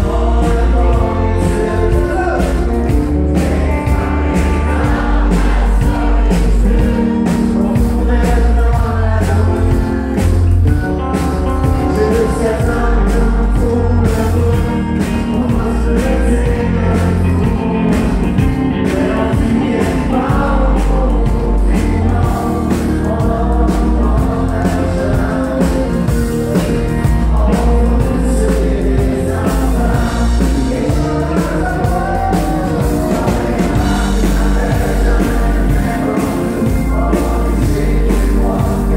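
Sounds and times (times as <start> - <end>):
live band playing: 0.0 - 38.9
person singing lead vocal: 0.0 - 38.9.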